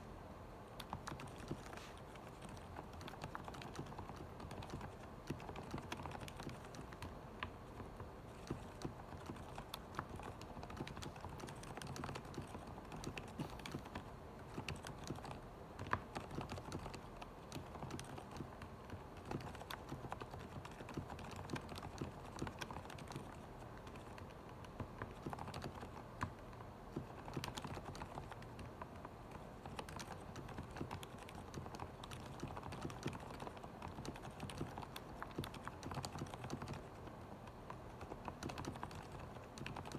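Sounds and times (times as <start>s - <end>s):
mechanical keyboard typing: 0.7s - 39.9s.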